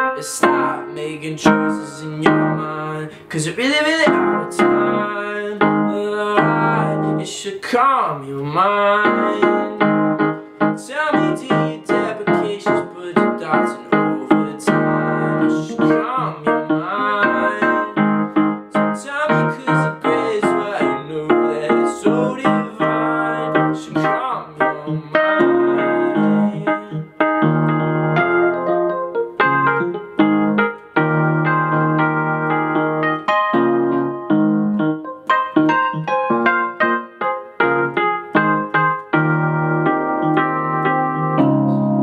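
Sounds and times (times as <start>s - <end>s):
solo piano playing: 0.0s - 7.5s, 8.4s - 42.0s.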